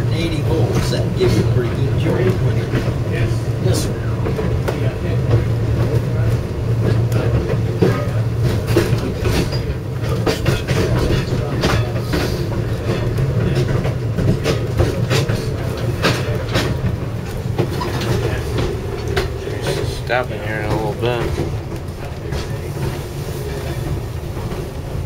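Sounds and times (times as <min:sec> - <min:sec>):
low rumble of rail car: 0:00.0 - 0:25.0
wheels clicking and clanking: 0:00.0 - 0:25.0.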